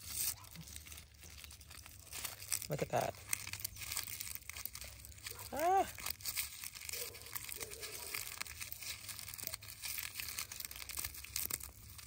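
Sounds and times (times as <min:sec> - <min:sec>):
mesh bag crinkling and rustling: 0:00.0 - 0:12.0.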